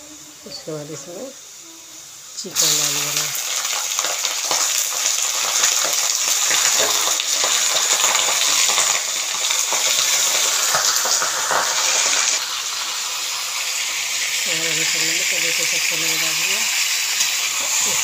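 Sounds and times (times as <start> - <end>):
chicken sizzling in hot oil: 0.2 - 18.0.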